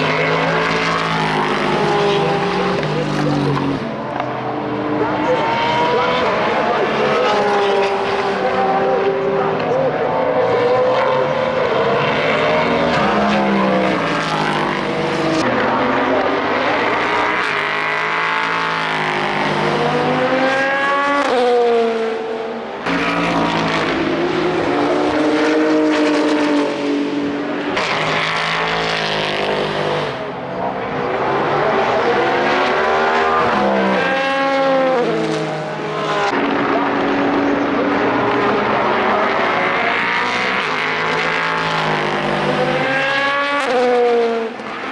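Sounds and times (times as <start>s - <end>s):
race car engines passing: 0.0s - 44.9s.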